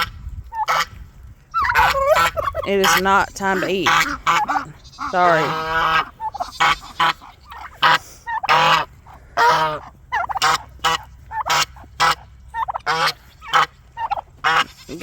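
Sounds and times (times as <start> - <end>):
poultry calling harshly: 0.0 - 15.0.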